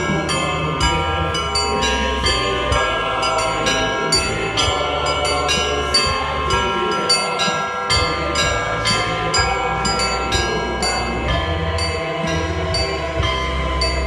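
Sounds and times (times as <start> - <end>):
large low church bells ringing: 0.0 - 14.0
small high church bells: 0.0 - 14.0.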